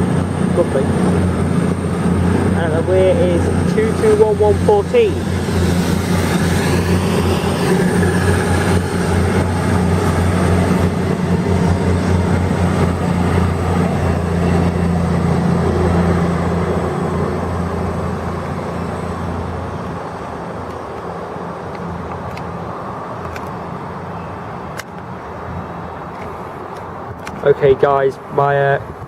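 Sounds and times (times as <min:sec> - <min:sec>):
diesel trains running past: 0:00.0 - 0:29.0.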